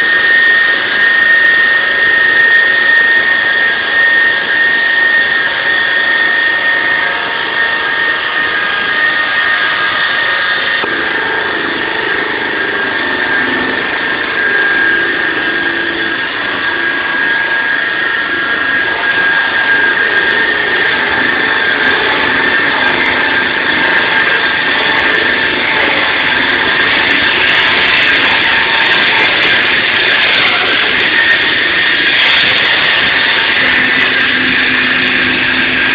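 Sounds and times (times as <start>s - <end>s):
concrete saw whining: 0.0s - 35.9s.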